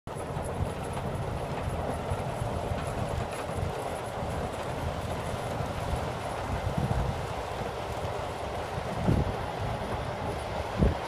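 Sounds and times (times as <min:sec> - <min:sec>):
snowplow engine low rumble: 0:00.1 - 0:11.0.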